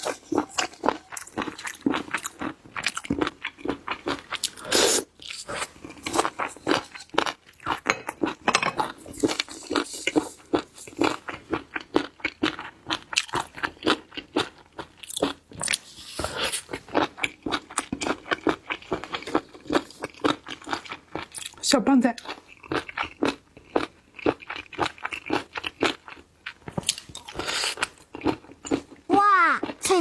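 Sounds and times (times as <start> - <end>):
crunching and chewing seafood: 0.0 - 30.0.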